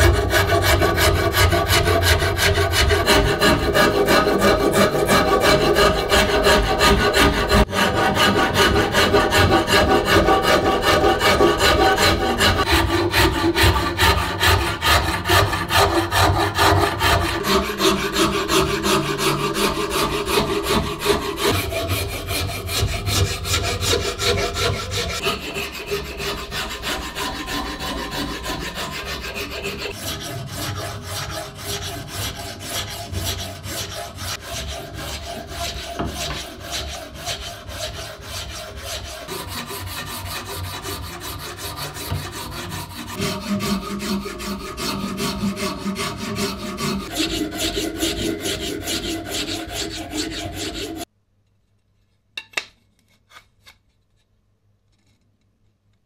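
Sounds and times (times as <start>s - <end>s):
abrasive rubbing on wood: 0.0s - 51.1s.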